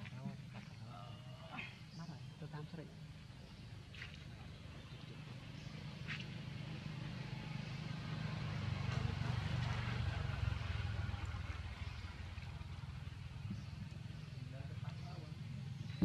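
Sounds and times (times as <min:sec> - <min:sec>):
passing vehicle engine rumble: 0:03.1 - 0:16.0.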